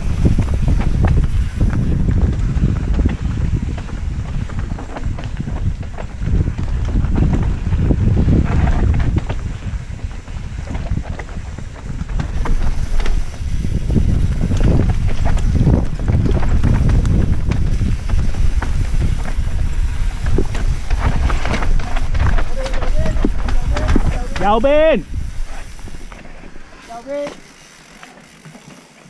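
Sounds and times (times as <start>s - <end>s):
wind rumbling on microphone: 0.0s - 27.2s
bike clicks and rattles: 0.0s - 29.0s.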